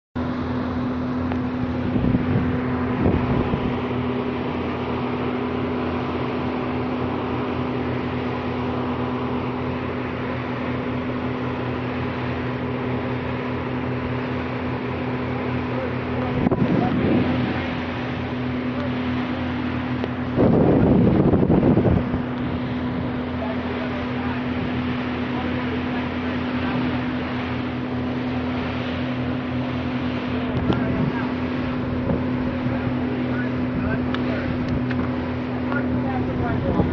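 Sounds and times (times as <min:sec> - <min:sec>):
motorboat engine drone: 0:00.0 - 0:36.9
wind and water rushing: 0:00.2 - 0:36.9.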